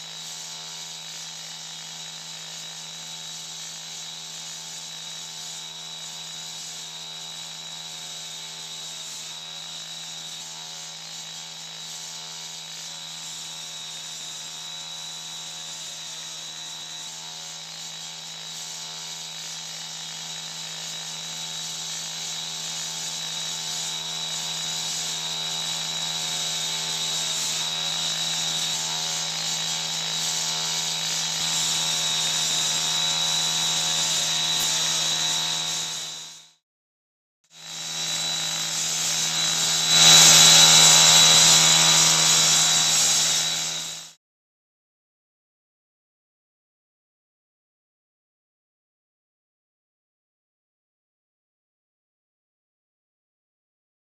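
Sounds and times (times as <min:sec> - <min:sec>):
cut-off saw cutting concrete: 0:00.0 - 0:36.6, 0:37.5 - 0:44.2.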